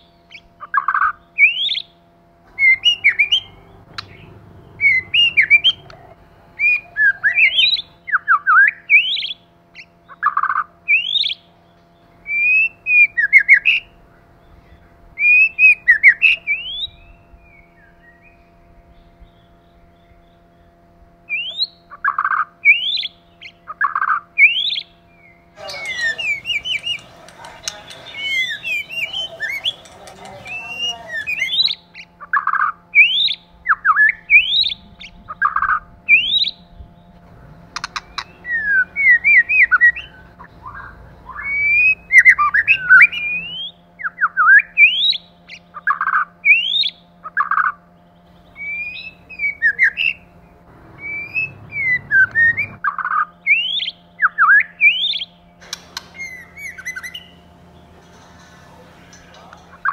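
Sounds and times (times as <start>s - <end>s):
bird singing whistled phrases: 0.0s - 2.0s, 2.6s - 4.2s, 6.6s - 11.5s, 12.2s - 20.7s, 21.3s - 36.7s, 37.8s - 47.7s, 48.4s - 50.2s, 51.0s - 55.4s, 56.0s - 57.4s.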